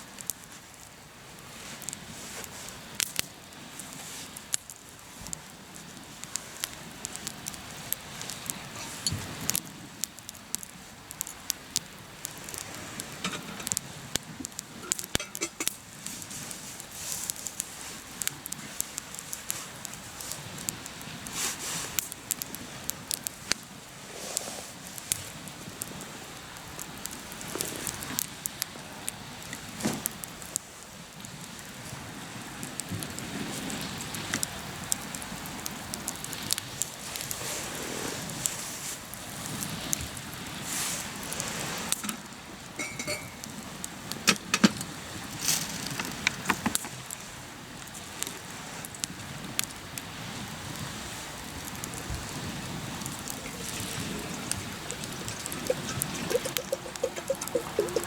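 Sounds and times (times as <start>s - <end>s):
campfire crackling and popping: 2.9s - 31.8s, 32.5s - 37.4s, 43.3s - 50.1s, 50.7s - 58.0s.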